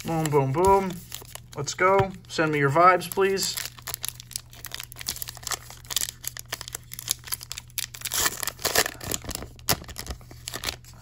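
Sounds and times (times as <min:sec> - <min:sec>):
wrapper crinkling and ripping: 0:00.0 - 0:11.0.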